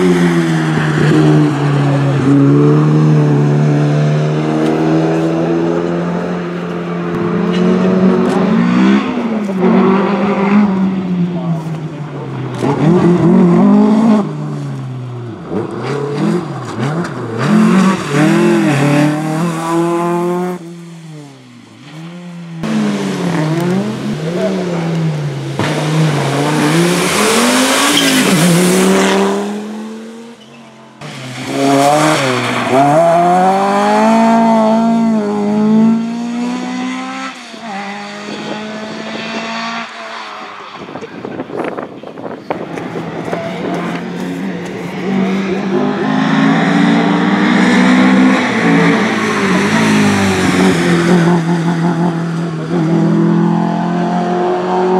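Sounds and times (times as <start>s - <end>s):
rally car engines revving: 0.0s - 54.9s
tyre and road noise: 0.0s - 54.9s.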